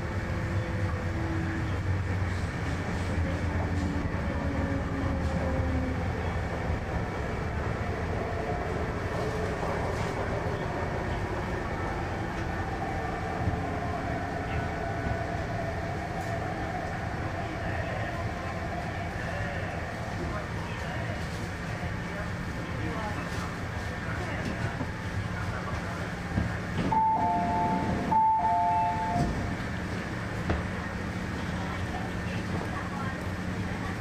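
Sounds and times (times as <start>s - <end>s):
train cabin rumble: 0.0s - 34.0s.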